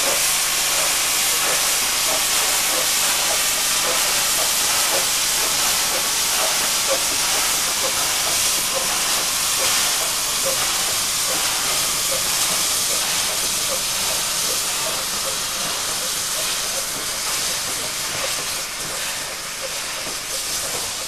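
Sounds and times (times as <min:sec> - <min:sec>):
steam hissing: 0:00.0 - 0:21.0.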